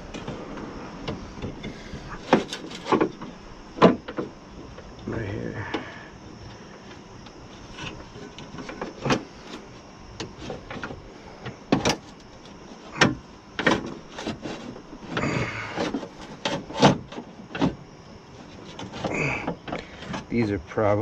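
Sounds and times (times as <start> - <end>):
scraping rattle: 0.0 - 4.3, 5.8 - 20.4.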